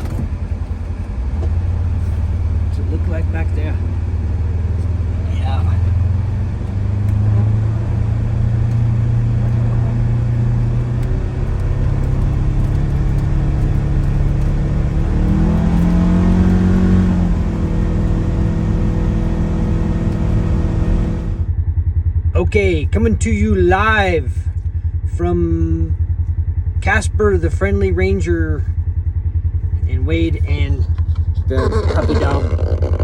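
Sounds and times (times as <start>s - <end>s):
utility vehicle engine running: 0.0s - 33.0s.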